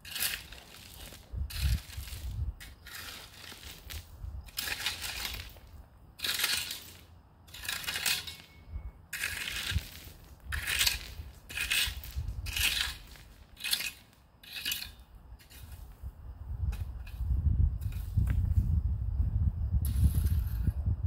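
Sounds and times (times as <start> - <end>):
tool scraping through gravel: 0.0 - 16.1, 16.7 - 18.5, 19.8 - 20.8.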